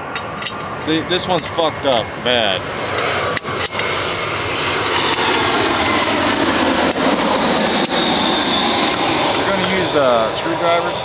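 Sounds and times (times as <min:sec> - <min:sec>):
loud engine roar: 0:00.0 - 0:11.0.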